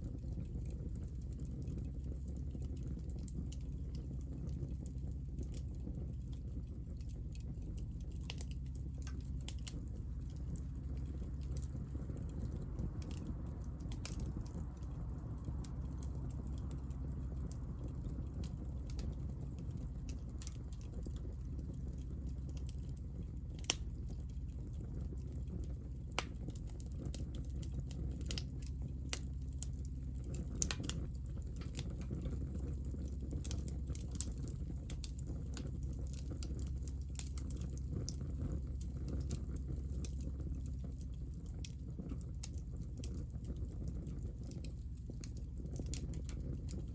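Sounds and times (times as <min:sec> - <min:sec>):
low fire rumble: 0:00.0 - 0:46.9
wood fire crackling: 0:00.0 - 0:46.9
sharp pops from fire: 0:02.5 - 0:46.9.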